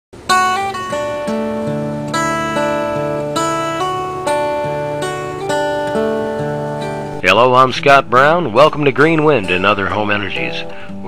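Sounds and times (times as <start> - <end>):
plucked string chords: 0.2 - 11.0.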